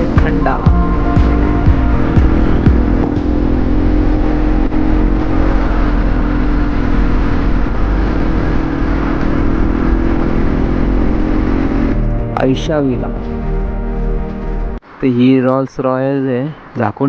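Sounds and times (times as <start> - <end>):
motorcycle engine running: 0.0 - 14.8
steady rushing noise: 0.0 - 15.2.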